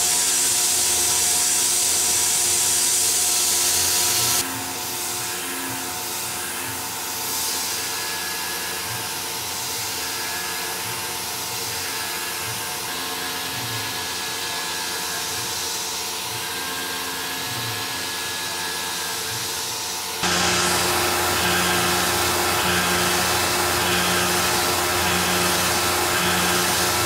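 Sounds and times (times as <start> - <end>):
mill cutting metal: 0.0 - 27.0.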